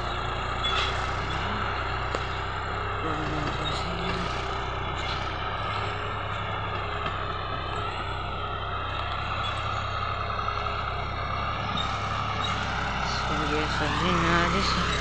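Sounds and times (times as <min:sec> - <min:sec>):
tractor diesel engine: 0:00.0 - 0:15.0.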